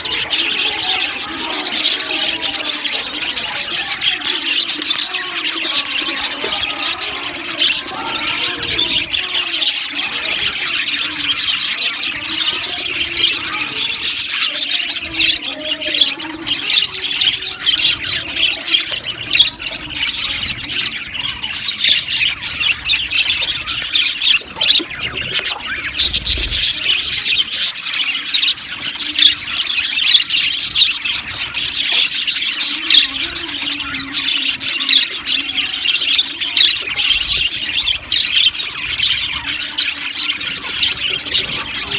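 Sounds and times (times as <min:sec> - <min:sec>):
budgerigars chattering: 0:00.0 - 0:41.9.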